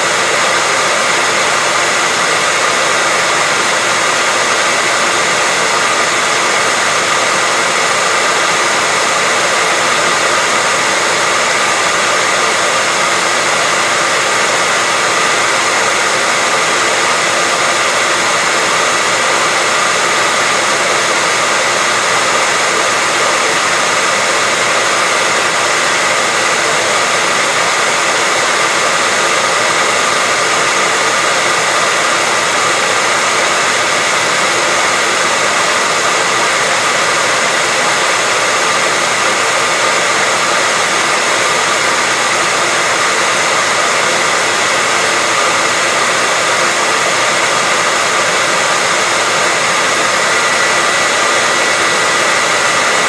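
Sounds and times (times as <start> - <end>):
hairdryer running: 0.0 - 53.0.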